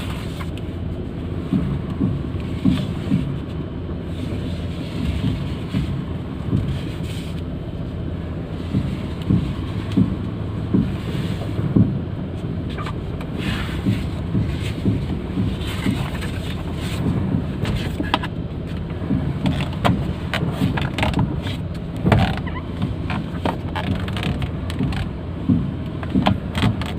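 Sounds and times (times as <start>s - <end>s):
low car rumble: 0.0s - 26.9s
steering system knocking: 0.0s - 26.9s.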